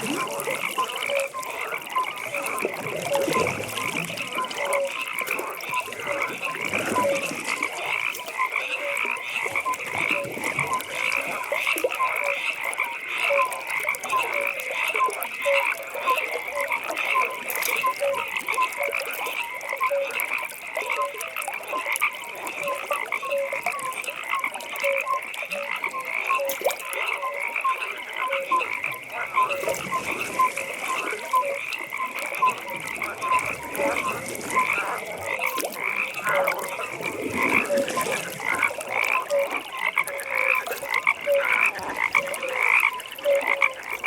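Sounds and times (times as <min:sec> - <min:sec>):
frogs chorus high calls: 0:00.0 - 0:44.0
low frog croak: 0:00.0 - 0:44.0.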